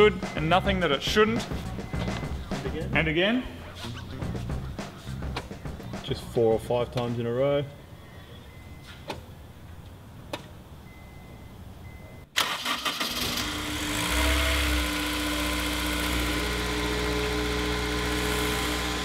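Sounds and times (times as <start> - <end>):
car engine starting and idling: 0.0 - 6.7, 9.9 - 19.0.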